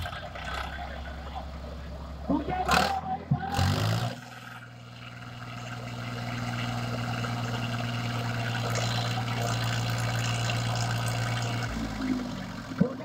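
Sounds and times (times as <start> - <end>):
diesel tractor engines running hard: 0.0 - 13.0.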